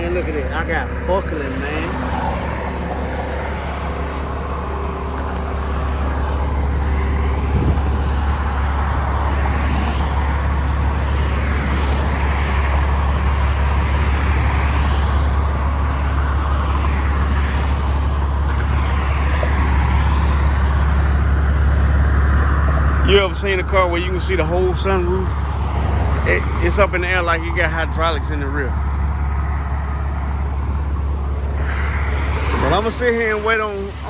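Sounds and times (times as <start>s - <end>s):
traffic passing at speed: 0.0s - 34.0s.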